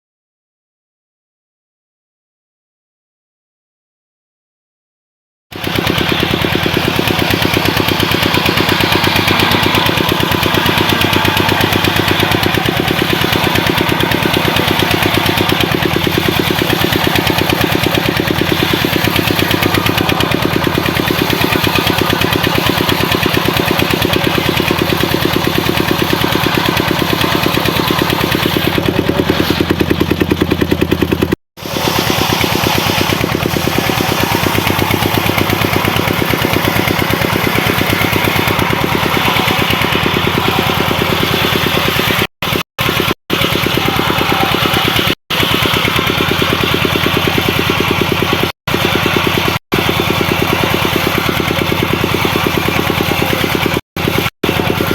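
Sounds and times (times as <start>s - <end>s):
circular saw engine pulsing: 5.5s - 54.9s.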